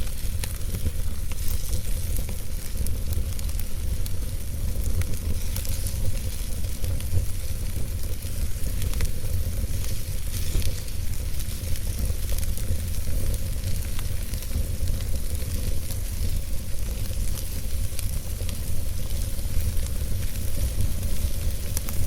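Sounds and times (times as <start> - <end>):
logs burning in fireplace: 0.0 - 22.0.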